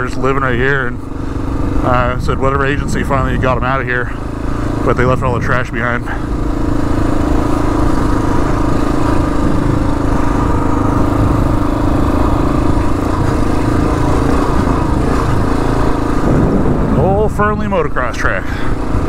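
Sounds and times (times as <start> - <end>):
motorcycle engine running steadily: 0.0 - 19.0.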